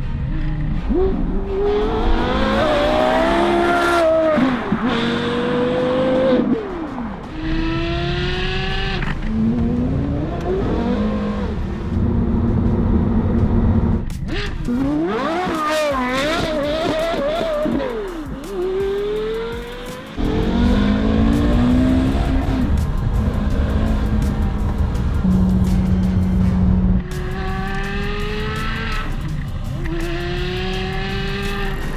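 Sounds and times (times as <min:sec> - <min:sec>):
car engine revving hard: 0:00.0 - 0:31.9.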